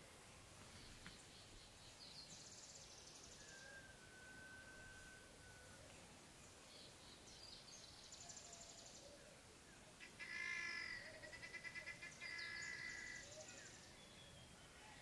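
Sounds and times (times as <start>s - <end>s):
low hiss: 0.0s - 15.0s.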